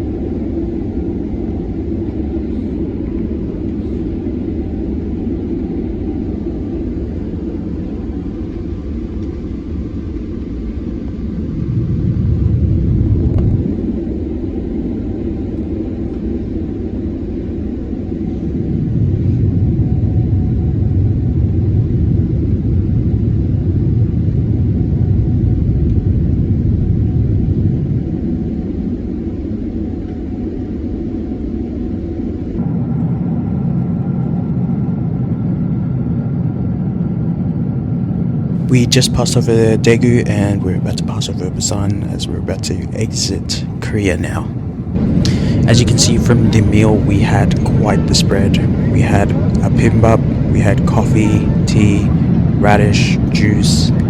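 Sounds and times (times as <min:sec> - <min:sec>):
aircraft engines and airflow rumble: 0:00.0 - 0:54.0.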